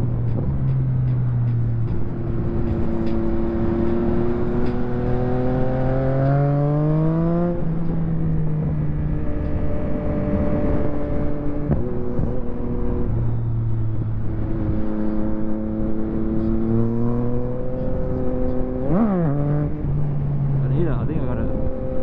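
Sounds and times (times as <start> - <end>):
wind and road noise: 0.0 - 22.0
motorcycle engine revving: 1.6 - 20.7.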